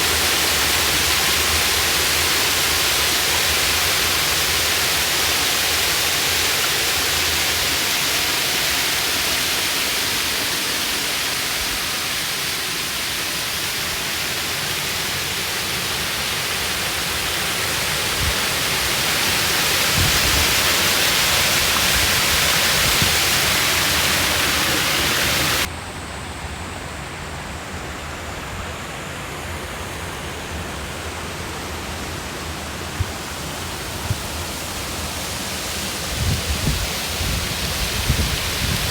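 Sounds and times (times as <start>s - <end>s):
waterfall rushing: 0.0s - 25.7s, 27.4s - 38.9s.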